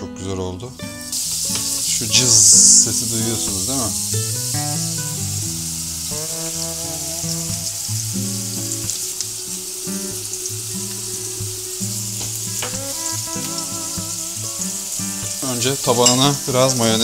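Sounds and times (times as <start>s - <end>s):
background music: 0.0s - 17.0s
patties sizzling in a frying pan: 1.0s - 17.0s.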